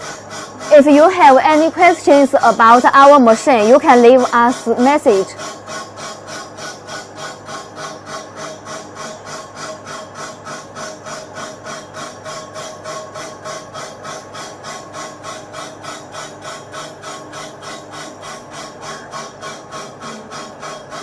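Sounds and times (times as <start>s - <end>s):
cutting tool scraping wheel: 0.0s - 21.0s.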